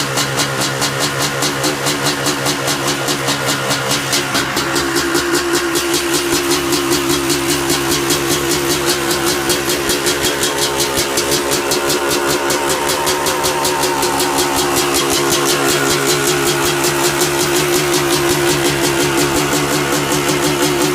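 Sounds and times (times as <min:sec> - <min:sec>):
two-stroke engine idling: 0:00.0 - 0:20.9.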